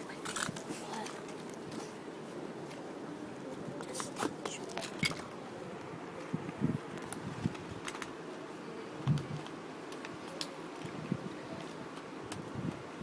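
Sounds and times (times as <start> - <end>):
steady fan-like hiss: 0.0 - 13.0.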